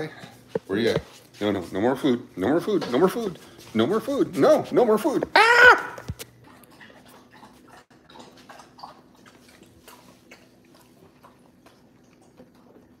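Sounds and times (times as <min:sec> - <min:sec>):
dog chewing: 0:00.1 - 0:13.0.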